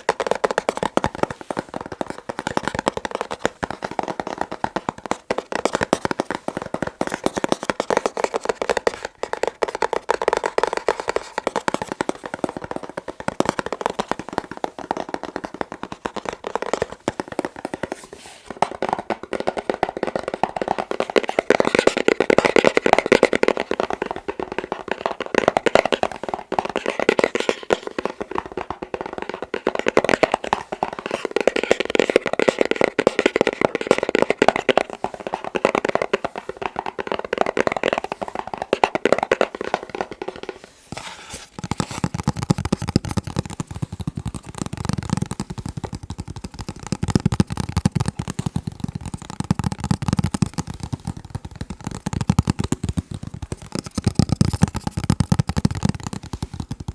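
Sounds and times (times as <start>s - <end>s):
fingertip tapping on a box: 0.0s - 56.9s.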